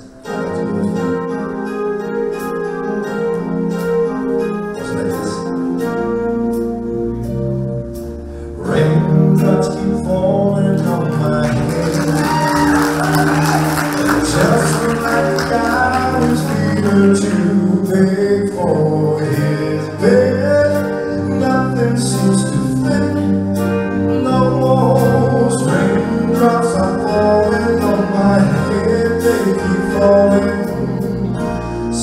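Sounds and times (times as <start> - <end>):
man singing into microphone: 0.0 - 1.8, 4.8 - 5.7, 8.5 - 32.0
band with keyboards: 0.0 - 32.0
steady bass notes: 0.0 - 32.0.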